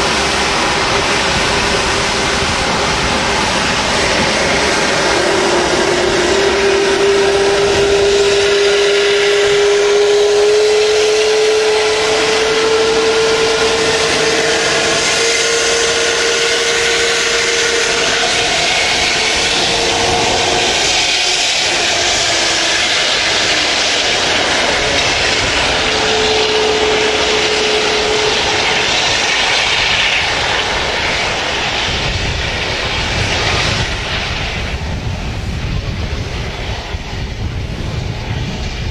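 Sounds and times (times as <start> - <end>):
jet engines rushing with high whine: 0.0 - 38.9.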